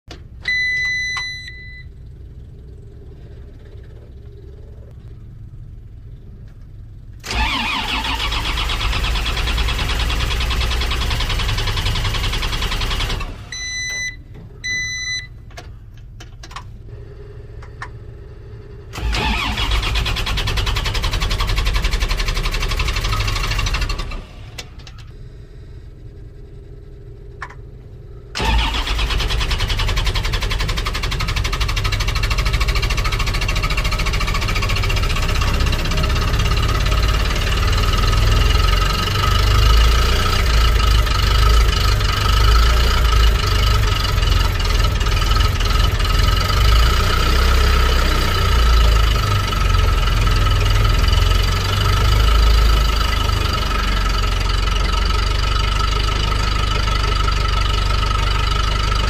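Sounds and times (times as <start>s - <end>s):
diesel engine starting and running: 0.1s - 59.0s.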